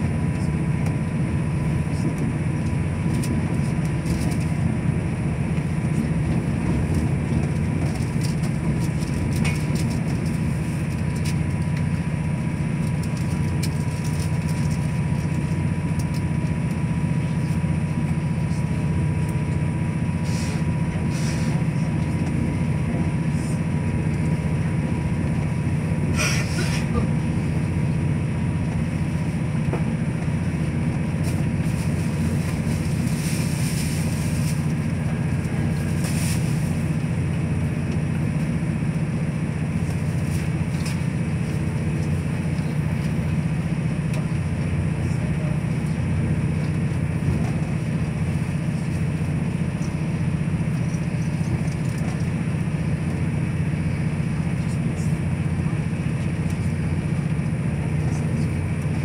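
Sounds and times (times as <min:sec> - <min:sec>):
diesel train rumble and hum: 0:00.0 - 0:59.0.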